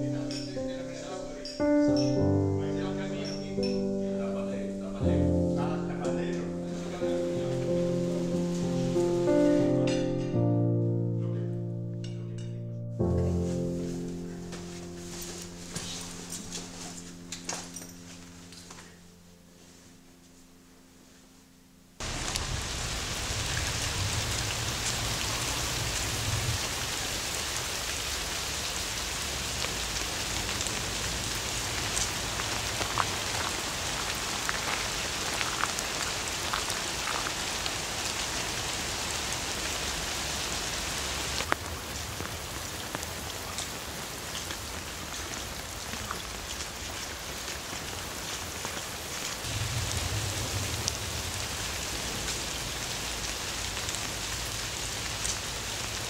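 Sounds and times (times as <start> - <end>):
rain falling on foliage and water: 0.0 - 10.8, 13.0 - 19.9, 22.0 - 56.0.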